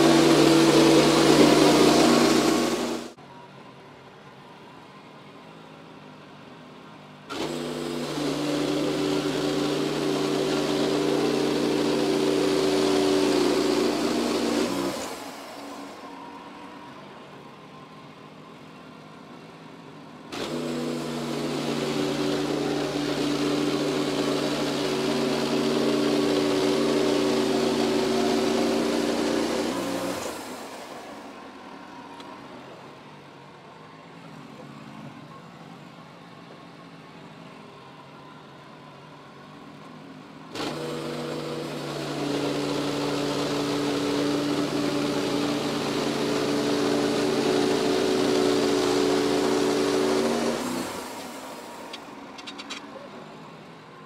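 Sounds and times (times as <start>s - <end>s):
sawmill engine: 0.0s - 3.8s, 4.4s - 54.0s.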